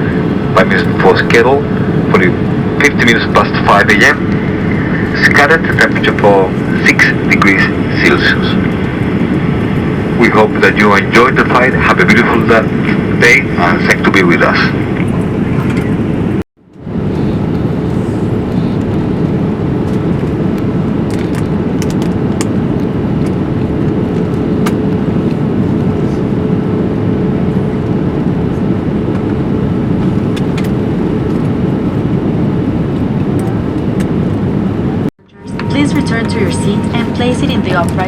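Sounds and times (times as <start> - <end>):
airliner cabin noise: 0.0 - 38.0
faint steady hum: 0.0 - 38.0.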